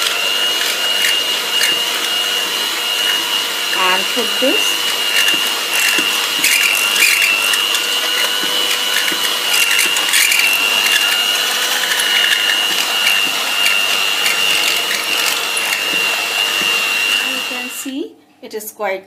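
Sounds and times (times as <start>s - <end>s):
beaters knocking bowl: 0.0s - 17.4s
hand mixer motor whine: 0.0s - 18.0s.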